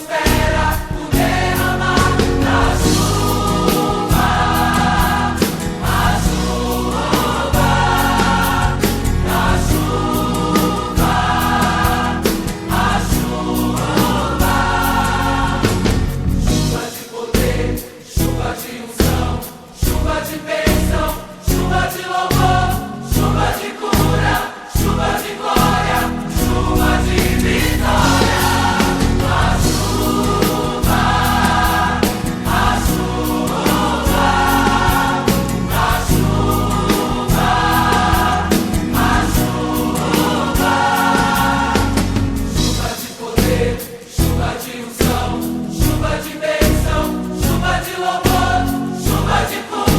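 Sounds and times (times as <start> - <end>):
choir backing voices: 0.0 - 49.9
gospel band backing track: 0.0 - 49.9
drum hits: 0.3 - 49.9.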